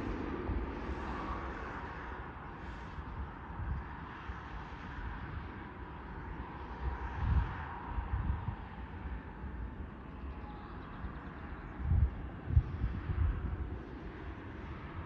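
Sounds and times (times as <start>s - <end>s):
distant jet engines: 0.0s - 15.0s
wind buffeting microphone: 0.0s - 15.0s.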